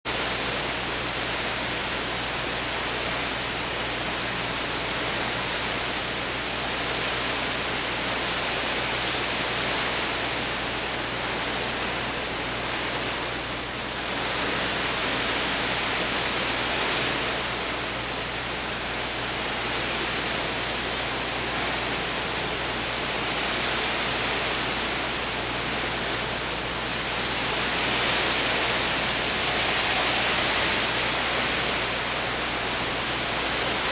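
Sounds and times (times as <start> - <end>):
heavy rain on road: 0.0 - 33.9.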